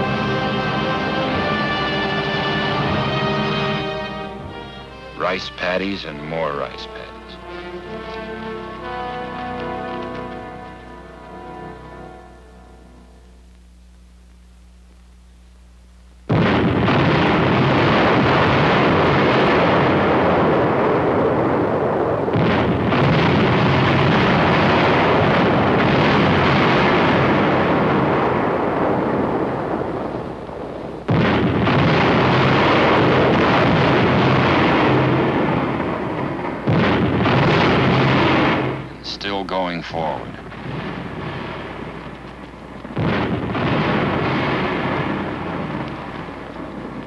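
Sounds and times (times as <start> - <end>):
artillery shell explosions: 0.0 - 12.8, 16.3 - 47.0.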